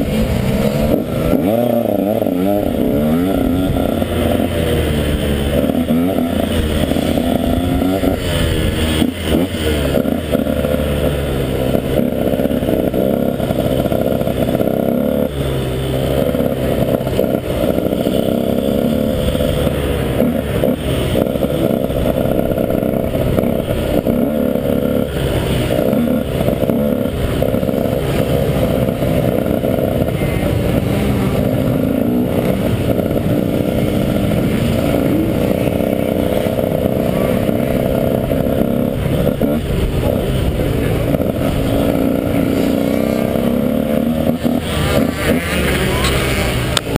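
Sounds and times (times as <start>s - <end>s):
motorbike engine at low revs: 0.0s - 47.0s.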